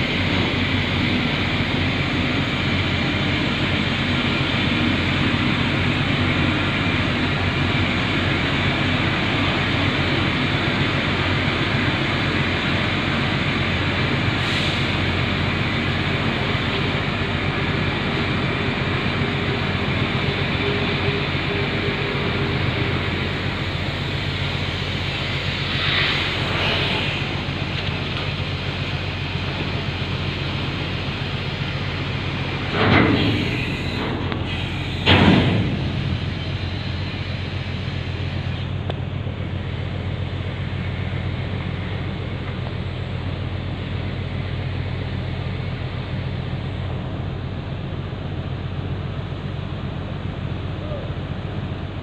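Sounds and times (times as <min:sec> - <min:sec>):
ferry engines droning: 0:00.0 - 0:52.0.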